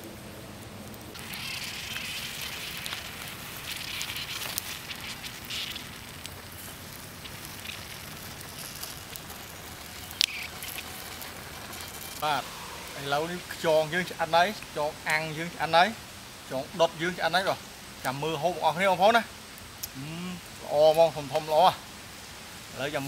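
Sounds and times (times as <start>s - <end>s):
snails sizzling on hot embers: 0.0s - 23.0s.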